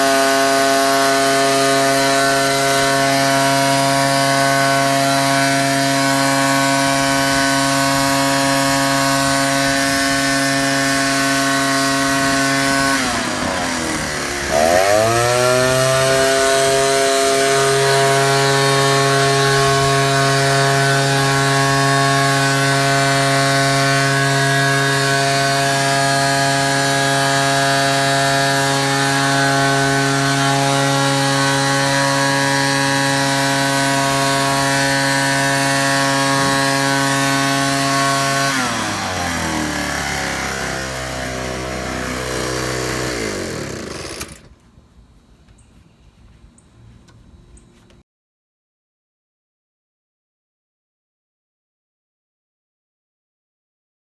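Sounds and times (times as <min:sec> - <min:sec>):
leaf blower engine: 0:00.0 - 0:44.7.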